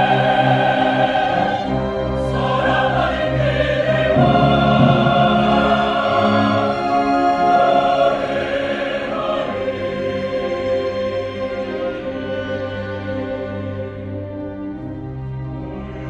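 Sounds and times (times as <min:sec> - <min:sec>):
mixed choir singing: 0:00.0 - 0:14.7
string orchestra: 0:00.0 - 0:16.0.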